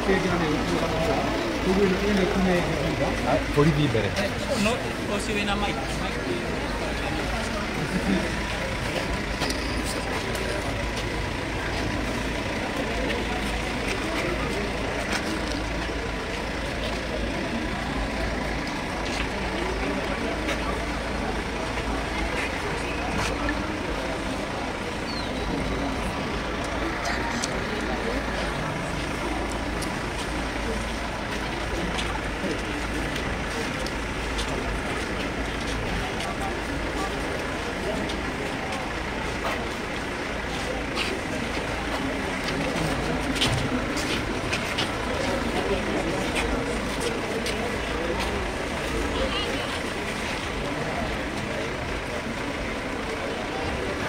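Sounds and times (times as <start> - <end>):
faint voices: 0.0 - 54.0
indistinct crowd: 0.0 - 54.0
vehicle engine idling: 0.0 - 54.0.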